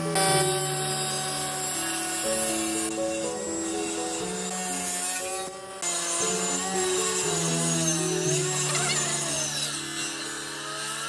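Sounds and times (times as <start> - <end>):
background music of held notes: 0.0 - 10.3
saw whining through wood: 0.0 - 11.0.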